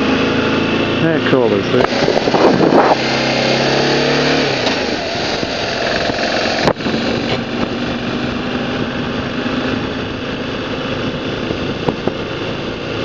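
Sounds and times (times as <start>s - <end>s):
motorcycle engine running: 0.0s - 13.0s
wind noise: 1.8s - 3.8s, 4.4s - 13.0s.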